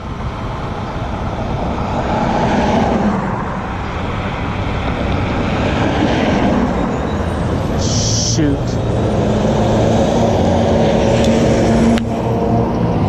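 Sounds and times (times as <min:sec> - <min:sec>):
cars passing on busy street: 0:00.0 - 0:13.0.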